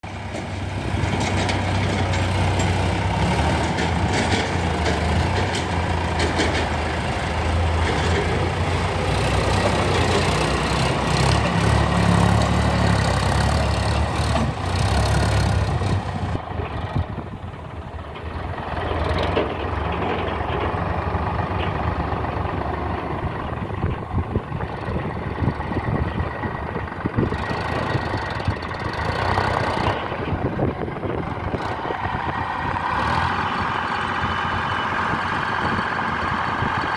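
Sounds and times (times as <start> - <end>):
tractor engine running under load: 0.0 - 36.9.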